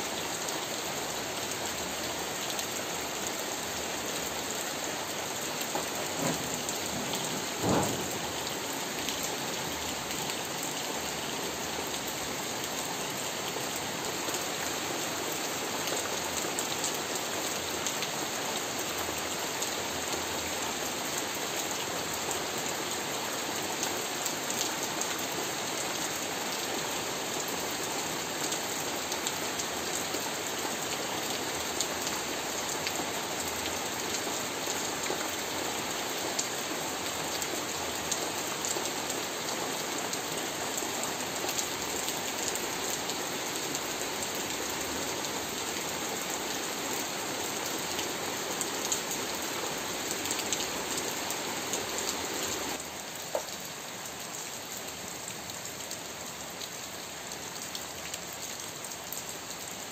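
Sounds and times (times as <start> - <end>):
rain on roof tiles and leaves: 0.0 - 59.9.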